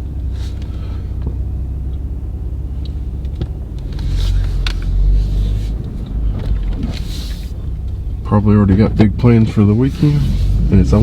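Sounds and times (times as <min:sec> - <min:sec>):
engine and road rumble in cabin: 0:00.0 - 0:11.0.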